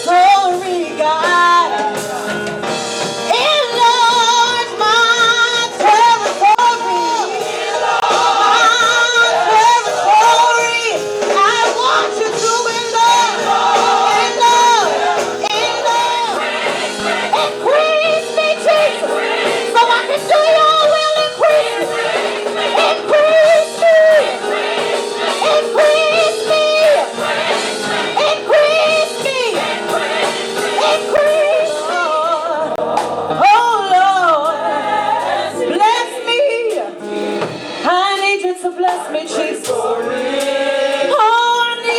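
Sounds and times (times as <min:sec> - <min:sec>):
vocal group singing in harmony: 0:01.2 - 0:37.2, 0:38.6 - 0:41.9.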